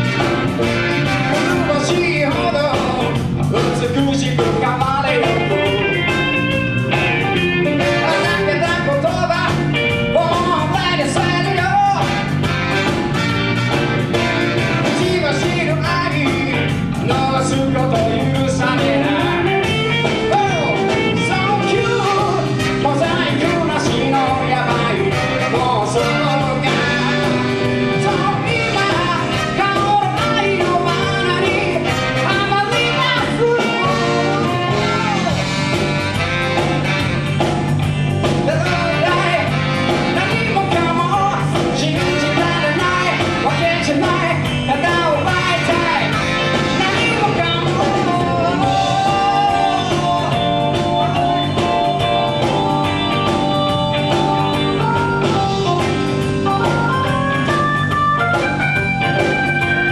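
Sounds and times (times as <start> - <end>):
guitar: 0.0 - 59.9
live rock and roll band: 0.0 - 59.9
steady drum beat: 0.0 - 59.9.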